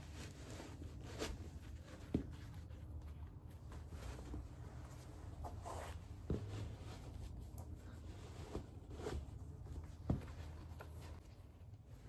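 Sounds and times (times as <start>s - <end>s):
rustling of laces and fabric: 0.0s - 12.0s.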